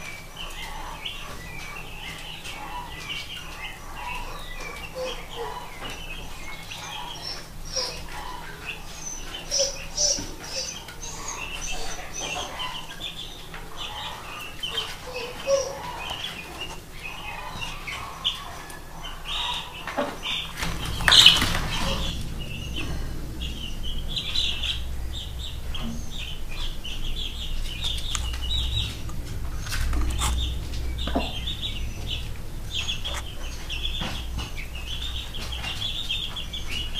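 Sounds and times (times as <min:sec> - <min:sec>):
chicks peeping: 0:00.0 - 0:36.9
low hum: 0:00.0 - 0:36.9.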